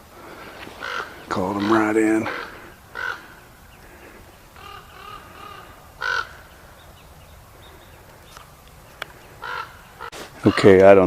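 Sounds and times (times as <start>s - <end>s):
crows cawing: 0.2s - 8.3s, 8.9s - 10.8s.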